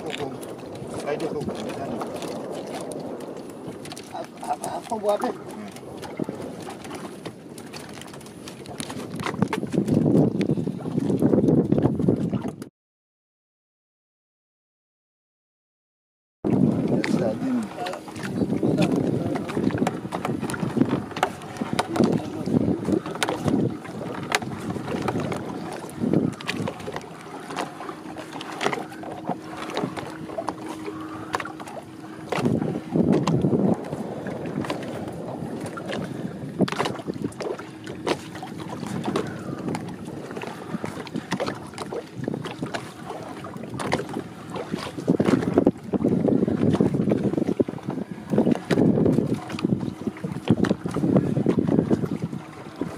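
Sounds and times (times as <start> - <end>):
water slapping against hull: 0.0 - 12.7, 16.4 - 52.9
wind buffeting microphone: 0.0 - 12.7, 16.4 - 52.9.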